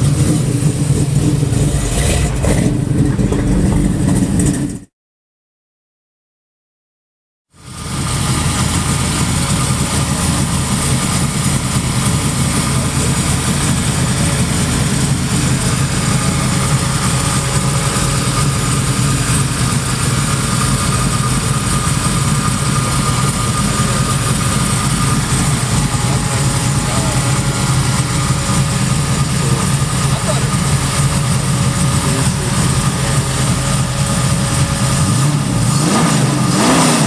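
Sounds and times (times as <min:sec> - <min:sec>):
car engine droning steadily: 0:00.0 - 0:04.9, 0:07.6 - 0:37.0.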